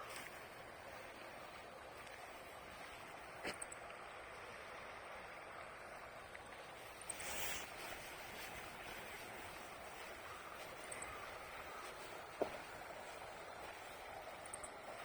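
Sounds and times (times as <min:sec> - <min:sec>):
water rushing in a stream: 0:00.0 - 0:15.0.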